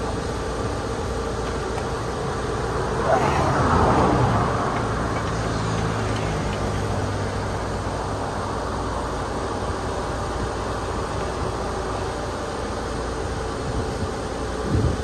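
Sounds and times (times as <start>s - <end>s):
highway traffic rush: 0.0s - 15.0s.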